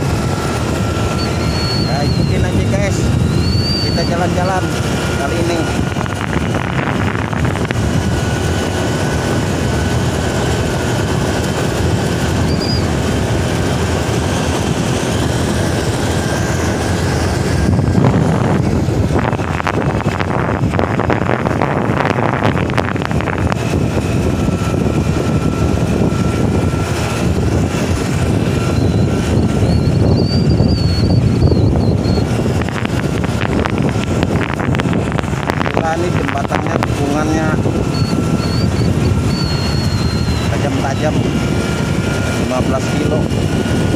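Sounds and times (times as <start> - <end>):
vehicle engine and road noise: 0.0 - 43.9
wind buffeting microphone: 0.0 - 43.9.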